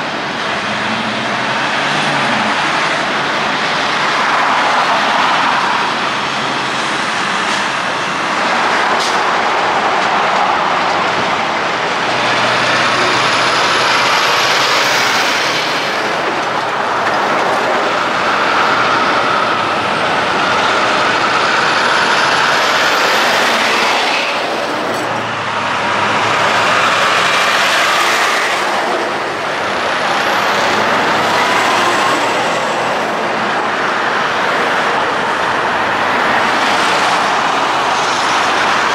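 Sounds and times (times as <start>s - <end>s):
heavy road traffic passing: 0.0s - 38.9s.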